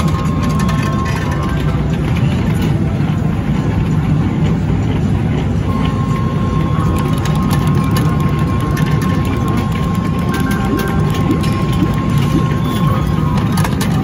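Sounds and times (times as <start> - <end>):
arcade machine rumble: 0.0 - 14.0.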